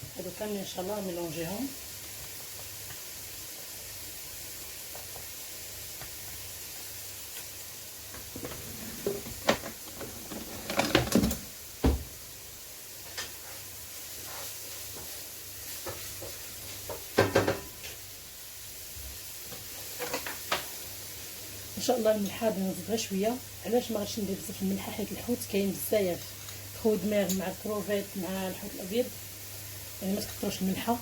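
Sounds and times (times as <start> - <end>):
food sizzling in oil: 0.0 - 10.4, 11.4 - 31.0.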